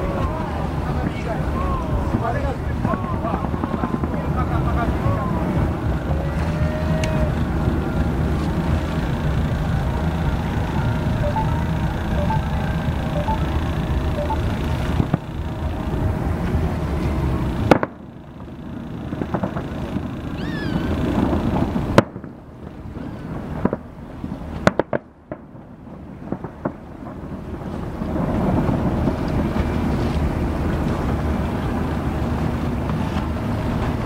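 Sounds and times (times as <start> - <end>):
boat engine rumble: 0.0 - 34.0.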